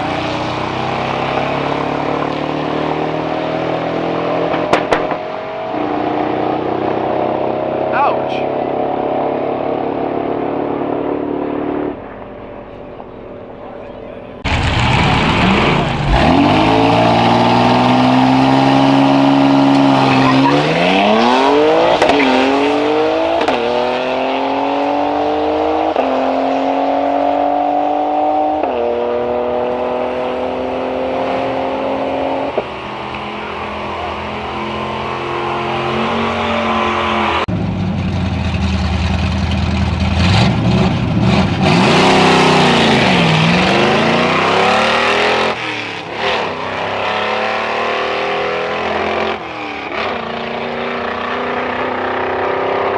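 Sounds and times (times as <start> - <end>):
car engine revving: 0.0 - 52.9
drag racing car accelerating: 0.0 - 52.9.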